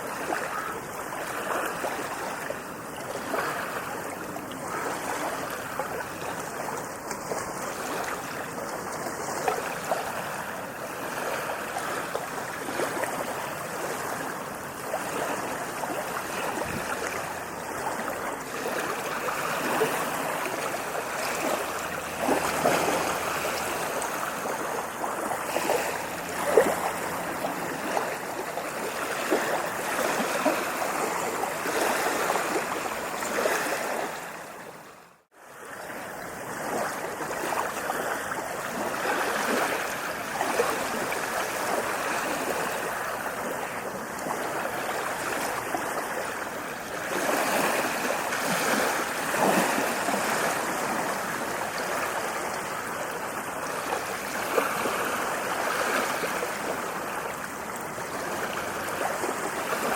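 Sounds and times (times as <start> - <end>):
sea waves washing onto beach: 0.0 - 59.9.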